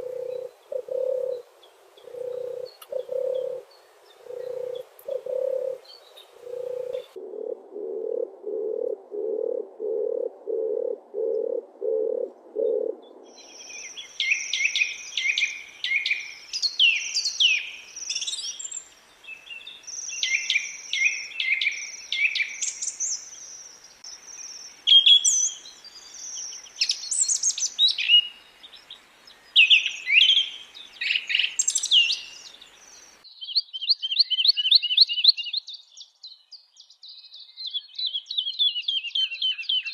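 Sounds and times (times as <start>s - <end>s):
songbirds singing: 0.0s - 7.2s, 10.8s - 39.9s
low repeated bird call: 0.0s - 35.6s.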